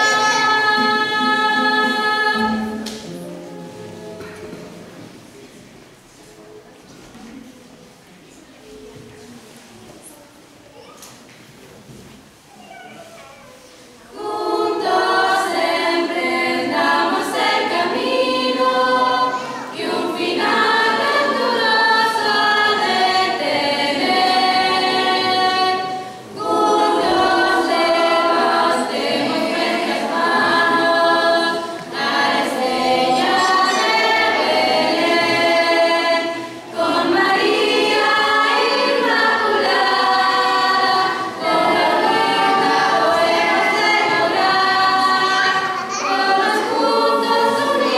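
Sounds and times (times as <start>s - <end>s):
girls' choir singing: 0.0s - 5.5s, 14.0s - 47.9s.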